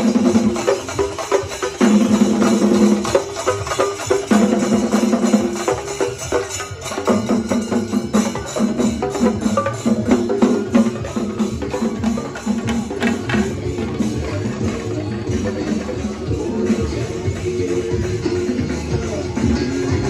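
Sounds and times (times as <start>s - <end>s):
drums played with sticks: 0.0s - 20.0s.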